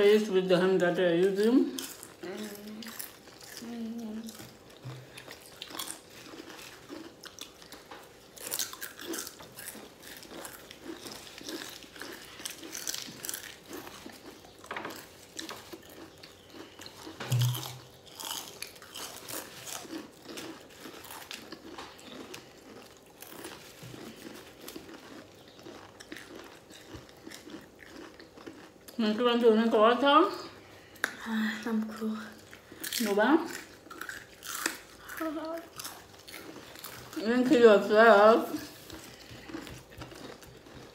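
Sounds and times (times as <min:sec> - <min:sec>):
people chewing crunchy chips: 0:00.0 - 0:40.9.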